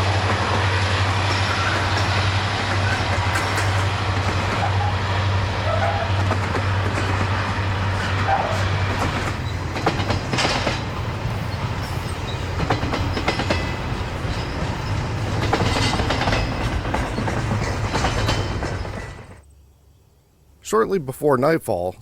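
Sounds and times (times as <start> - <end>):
train wheels clacking over rail joints: 0.0 - 19.4
steady low rumble of train: 0.0 - 20.6.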